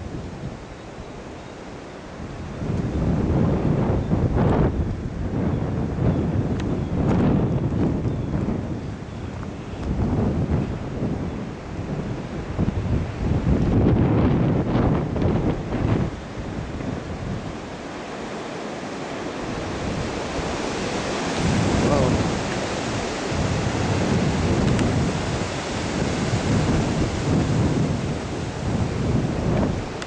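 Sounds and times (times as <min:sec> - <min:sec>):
strong wind through trees: 0:00.0 - 0:30.0
wind buffeting microphone: 0:00.0 - 0:30.0.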